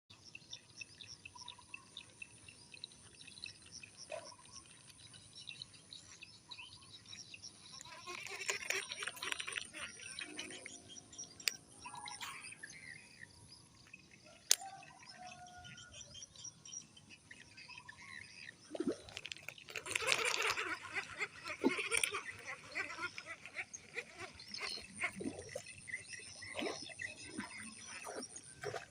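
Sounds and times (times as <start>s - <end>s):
birds chirping: 0.5s - 28.9s.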